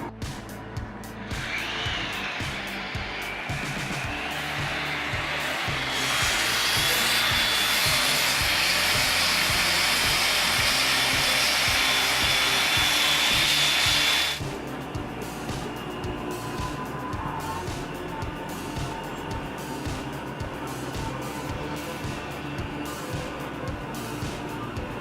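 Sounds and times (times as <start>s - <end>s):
background music with beat: 0.0s - 25.0s
angle grinder whining: 0.6s - 25.0s.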